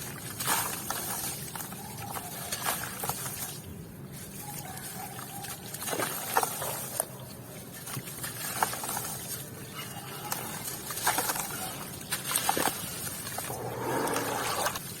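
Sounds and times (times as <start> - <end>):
wet cement crunching and crackling: 0.0 - 15.0.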